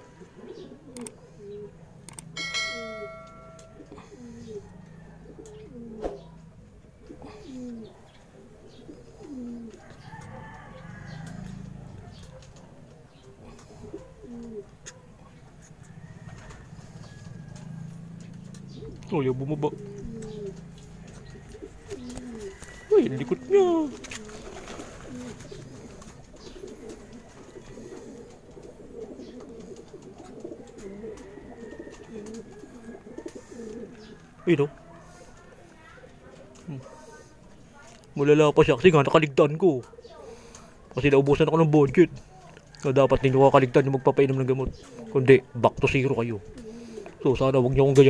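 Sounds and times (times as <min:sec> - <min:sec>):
pigeons cooing: 0:00.0 - 0:48.0.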